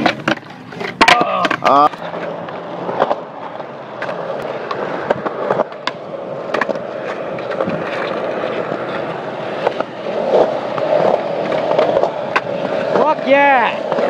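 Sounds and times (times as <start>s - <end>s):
skateboard wheels rolling on concrete: 0.0s - 14.0s.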